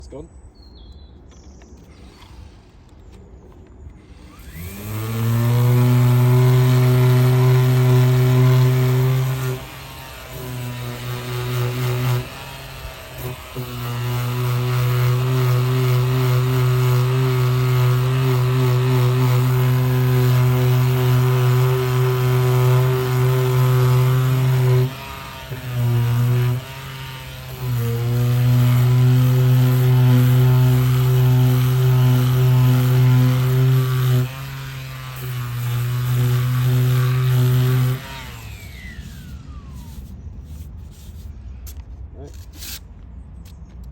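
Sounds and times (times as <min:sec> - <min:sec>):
power sander humming: 0:04.0 - 0:41.2.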